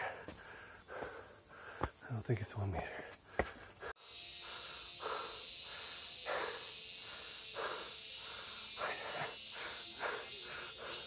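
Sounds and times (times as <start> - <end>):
man breathing hard: 0.0 - 2.0, 2.8 - 11.0
insects droning: 0.0 - 11.0.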